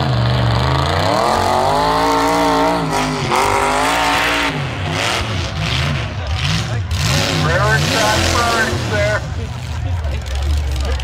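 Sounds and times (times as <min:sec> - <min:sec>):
pickup engine revving hard: 0:00.0 - 0:09.5.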